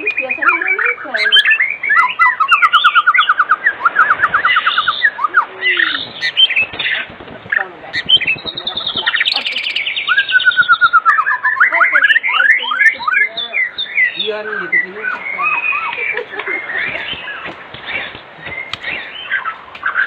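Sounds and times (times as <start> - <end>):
songbird whistling song: 0.0 - 20.0.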